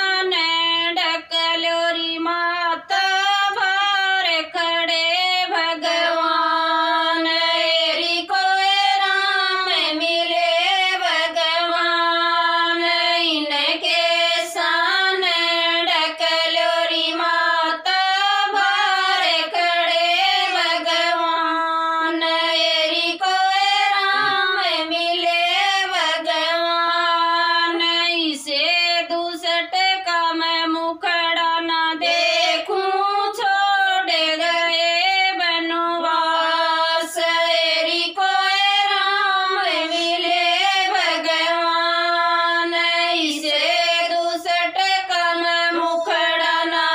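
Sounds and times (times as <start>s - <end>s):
women singing together: 0.0s - 46.9s.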